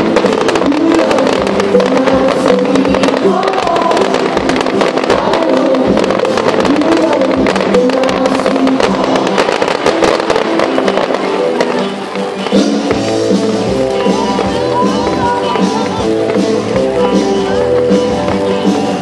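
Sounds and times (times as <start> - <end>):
fireworks crackling: 0.0 - 19.0
music with sustained notes: 0.0 - 19.0.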